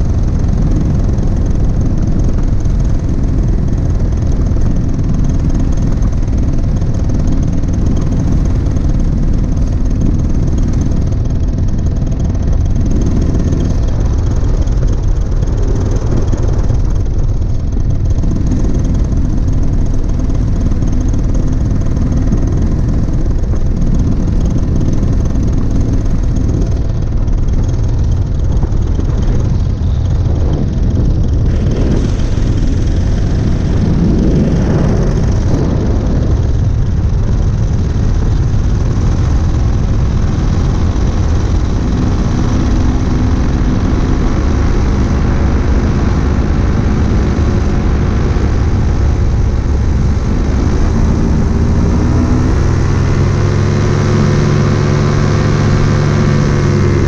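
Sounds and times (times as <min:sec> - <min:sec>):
paramotor engine running: 0:00.0 - 0:57.0
wind buffeting microphone: 0:00.0 - 0:57.0.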